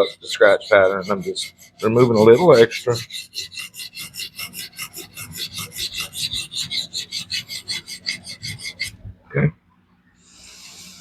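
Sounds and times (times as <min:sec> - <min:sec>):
sharpening plate rasping on knife: 0:00.0 - 0:09.0.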